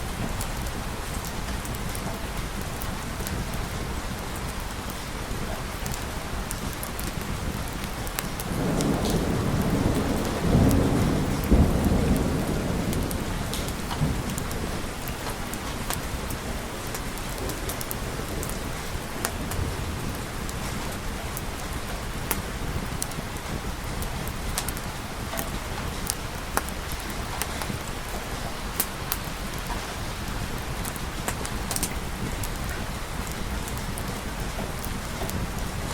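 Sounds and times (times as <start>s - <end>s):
steady rain: 0.0s - 35.9s
thunder rumble: 5.3s - 35.9s.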